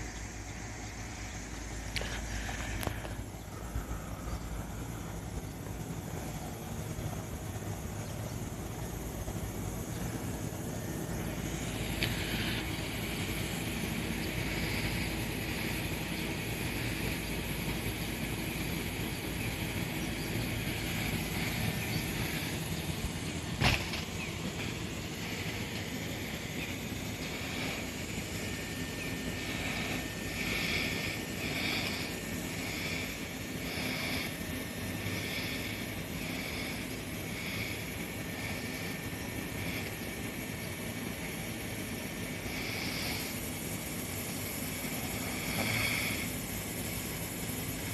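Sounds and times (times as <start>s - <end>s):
hissing noise: 0.0s - 47.9s
sharp hiss: 0.0s - 47.9s
train low mechanical rumble: 0.0s - 47.9s.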